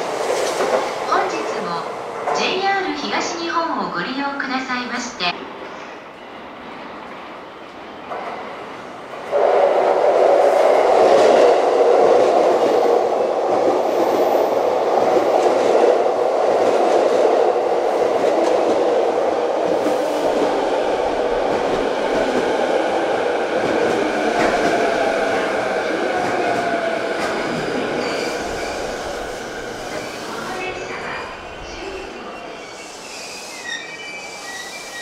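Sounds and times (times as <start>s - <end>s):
train running noise: 5.2s - 35.0s.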